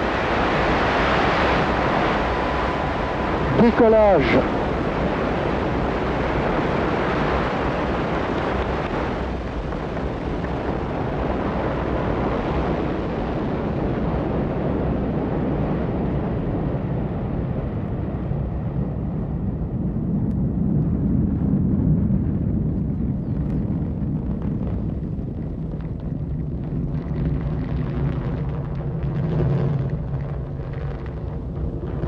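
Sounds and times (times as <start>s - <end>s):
rocket engine roar: 0.0s - 32.0s.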